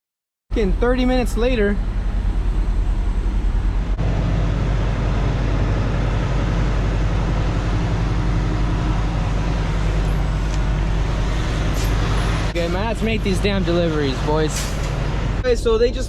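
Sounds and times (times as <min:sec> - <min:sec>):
truck diesel engine running: 0:00.6 - 0:15.5.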